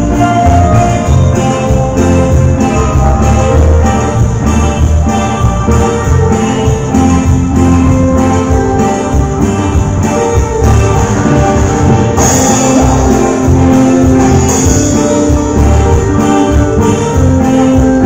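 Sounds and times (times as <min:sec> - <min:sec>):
congas: 0:00.0 - 0:18.0
drum kit: 0:00.0 - 0:18.0
electric guitar: 0:00.0 - 0:18.0
keyboard: 0:00.0 - 0:18.0.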